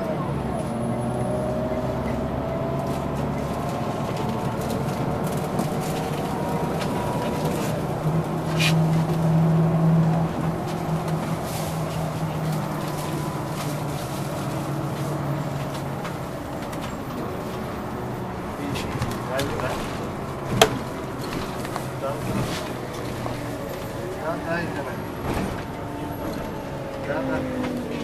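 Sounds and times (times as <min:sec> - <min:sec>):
bus engine hum: 0:00.0 - 0:28.0
road noise: 0:00.0 - 0:28.0.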